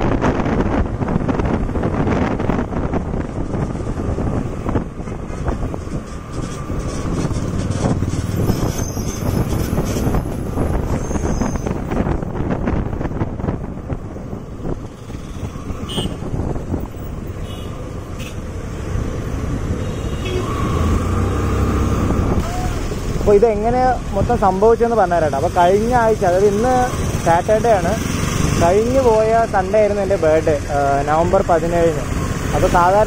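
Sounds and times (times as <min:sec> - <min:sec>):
vehicles passing: 0:00.0 - 0:33.0
wind rush on microphone: 0:00.0 - 0:33.0.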